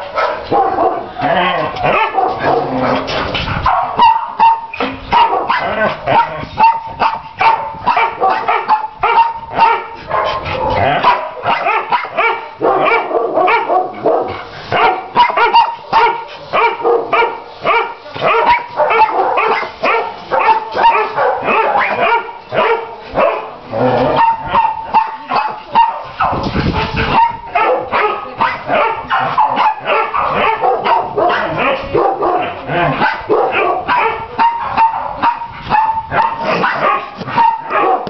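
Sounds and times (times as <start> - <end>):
dogs barking and yipping: 0.0 - 38.0.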